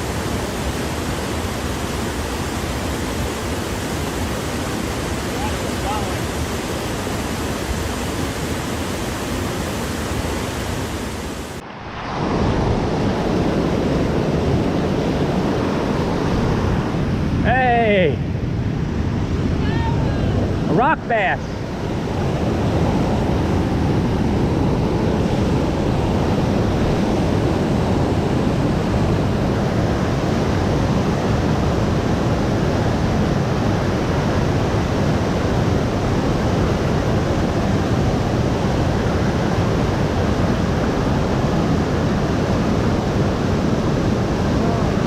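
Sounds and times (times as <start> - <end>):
loud steady rushing noise: 0.0 - 45.0.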